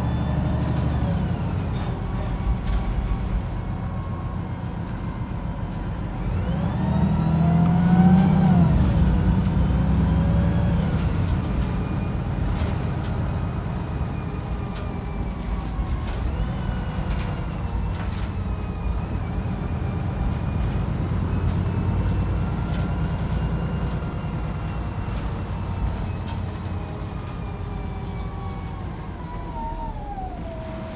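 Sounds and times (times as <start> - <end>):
bus engine and driveline whine: 0.0 - 30.9.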